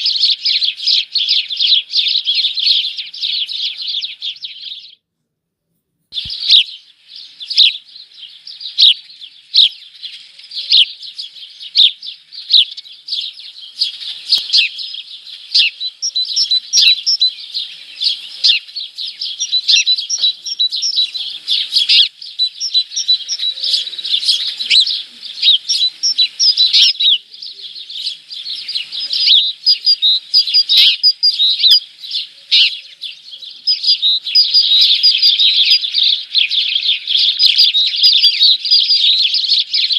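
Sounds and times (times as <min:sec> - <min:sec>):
small birds chirping: 0:00.0 - 0:05.1, 0:06.1 - 0:39.9.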